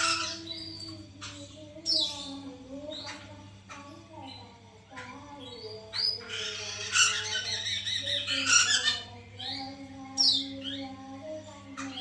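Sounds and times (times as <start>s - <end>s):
bird harsh chattering calls: 0.0s - 10.9s, 11.5s - 12.0s
steady low hum: 0.0s - 12.0s.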